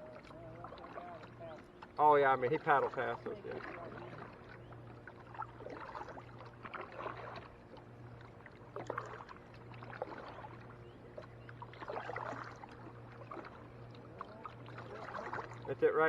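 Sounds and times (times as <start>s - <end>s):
paddle splashing in water: 0.0s - 16.0s
water dripping off paddle: 0.0s - 16.0s.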